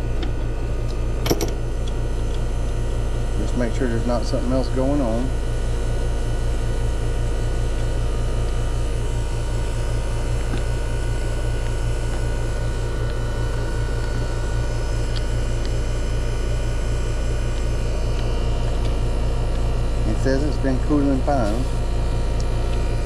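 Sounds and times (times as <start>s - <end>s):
air conditioner unit humming: 0.0s - 23.0s.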